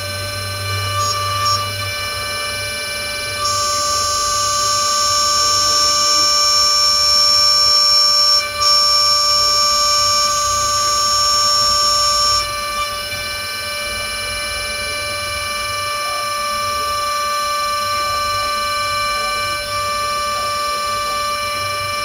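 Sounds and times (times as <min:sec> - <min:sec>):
milling spindle whining: 0:00.0 - 0:22.0.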